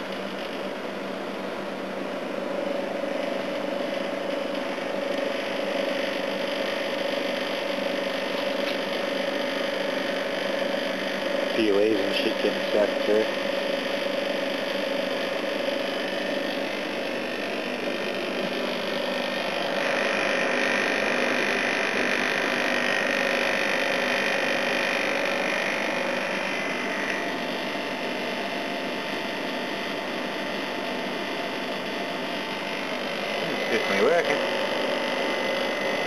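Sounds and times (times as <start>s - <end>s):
air conditioner compressor humming: 0.0s - 36.0s
air conditioner fan blowing: 0.0s - 36.0s.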